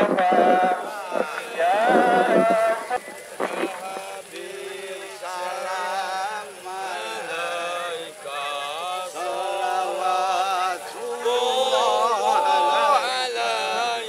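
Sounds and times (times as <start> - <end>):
man chanting devotional melody: 0.0 - 14.0.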